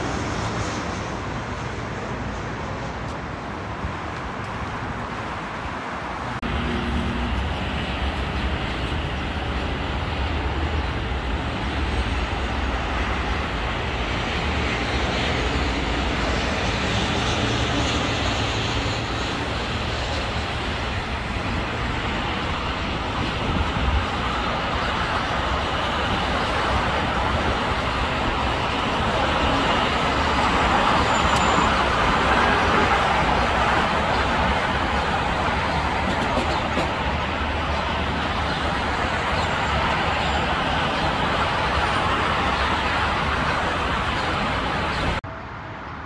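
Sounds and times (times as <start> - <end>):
jet airliner engines roaring: 0.0 - 46.0
road traffic: 0.0 - 46.0.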